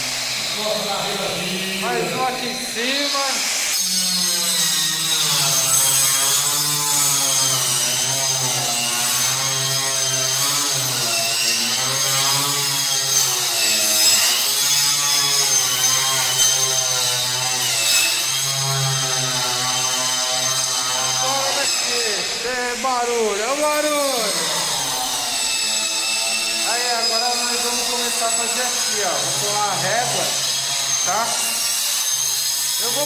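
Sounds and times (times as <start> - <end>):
power tool motor running: 0.0 - 33.0.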